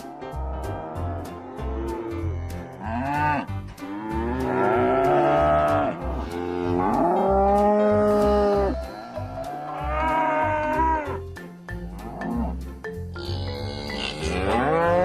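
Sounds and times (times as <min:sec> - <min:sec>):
music with steady beat: 0:00.0 - 0:15.0
cattle mooing: 0:00.7 - 0:11.2, 0:13.2 - 0:15.0.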